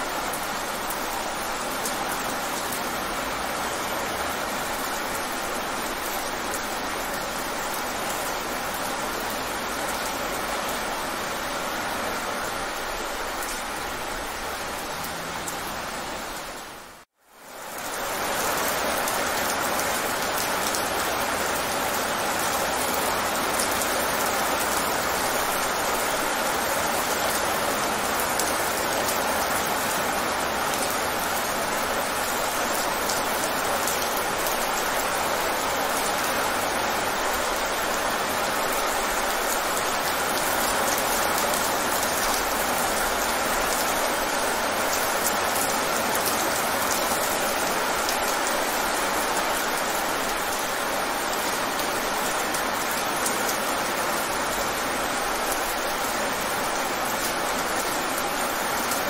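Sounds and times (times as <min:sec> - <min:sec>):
rain on wet pavement: 0:00.0 - 0:59.0.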